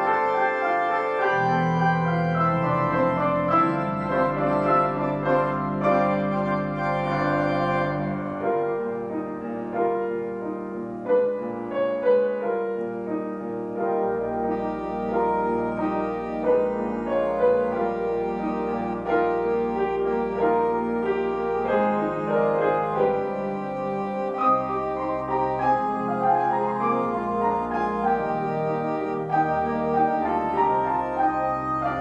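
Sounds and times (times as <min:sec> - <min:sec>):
church organ chords: 0:00.0 - 0:32.0.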